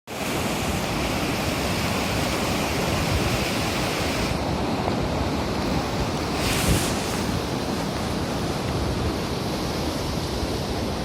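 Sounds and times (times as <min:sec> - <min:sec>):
rushing water: 0:00.1 - 0:11.0
wind buffeting microphone: 0:00.4 - 0:11.0.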